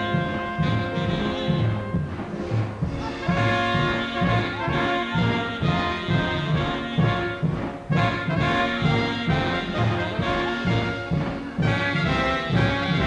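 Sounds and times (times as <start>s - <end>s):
brass band music: 0.0s - 13.0s.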